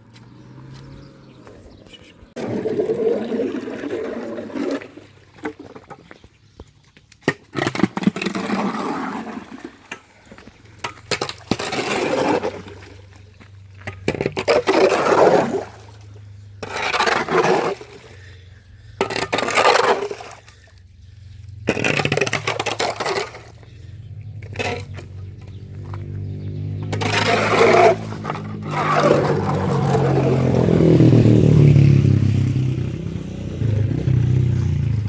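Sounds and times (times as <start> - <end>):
scraping through wet muck: 0.2 - 6.3, 7.5 - 31.8.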